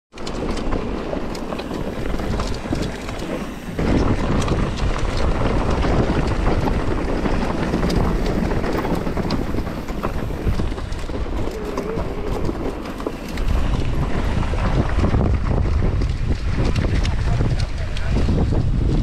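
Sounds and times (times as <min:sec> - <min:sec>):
bike knocking and rattling: 0:00.1 - 0:19.0
tyre noise on dirt: 0:00.2 - 0:19.0
wind on microphone: 0:01.2 - 0:19.0.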